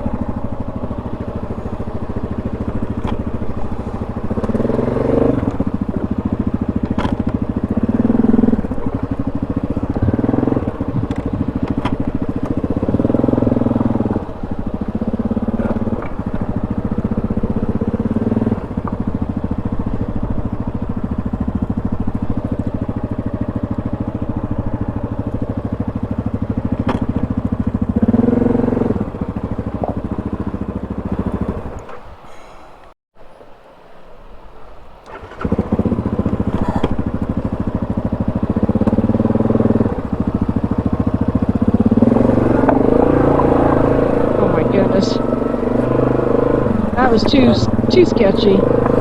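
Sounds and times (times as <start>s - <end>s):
atv engine running: 0.0s - 32.9s, 34.6s - 49.0s.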